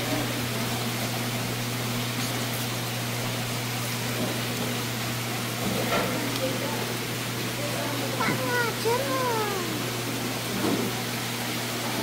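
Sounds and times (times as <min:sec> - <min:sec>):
circulation pumps humming: 0:00.0 - 0:12.0
water running and aerating: 0:00.0 - 0:12.0.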